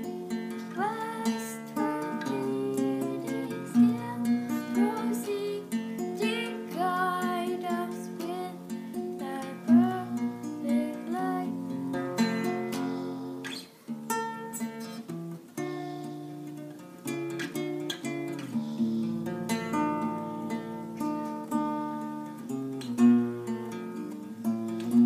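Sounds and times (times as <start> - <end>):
strummed acoustic guitar music: 0.0 - 25.0.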